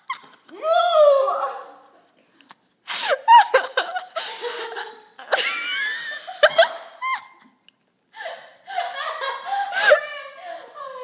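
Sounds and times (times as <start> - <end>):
girls laughing: 0.0 - 1.7, 2.9 - 7.6, 8.2 - 11.0.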